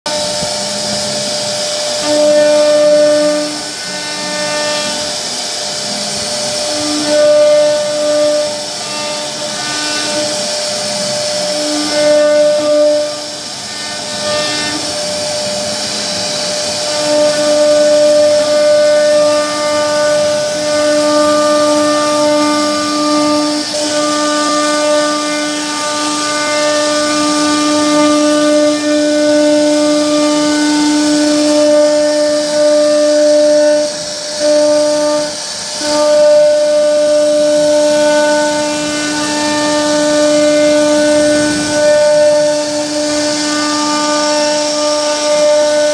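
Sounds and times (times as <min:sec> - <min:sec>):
router spindle whining: 0:00.1 - 0:45.9
bit carving wood hiss: 0:00.6 - 0:45.9.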